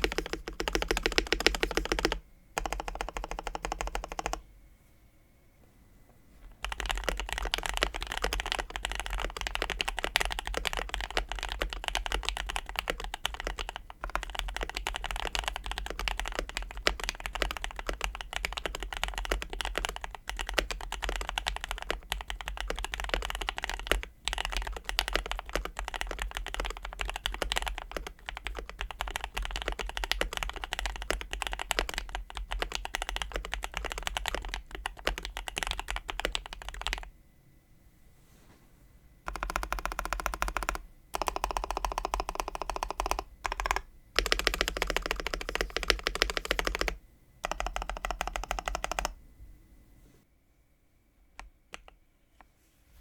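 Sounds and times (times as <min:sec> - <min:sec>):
typing on mechanical keyboard: 0:00.0 - 0:04.4, 0:06.5 - 0:37.1, 0:39.3 - 0:49.2, 0:51.4 - 0:52.0.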